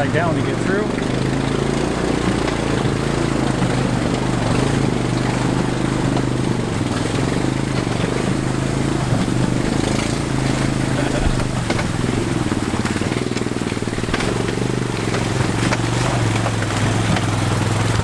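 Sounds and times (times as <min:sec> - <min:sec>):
atv engine running: 0:00.0 - 0:18.0
constant rushing noise: 0:00.0 - 0:18.0.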